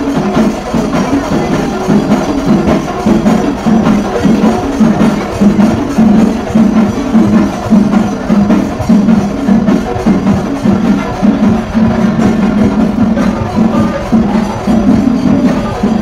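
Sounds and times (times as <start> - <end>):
procession band drums and percussion: 0.0 - 16.0.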